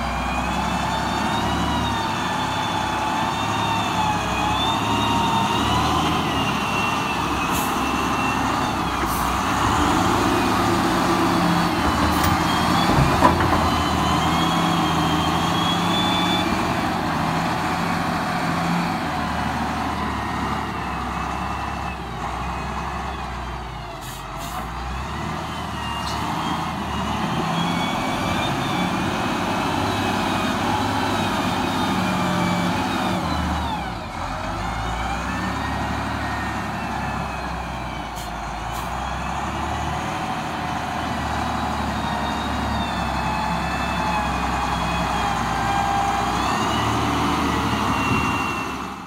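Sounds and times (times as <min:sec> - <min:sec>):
diesel loader engine working hard: 0:00.0 - 0:49.0.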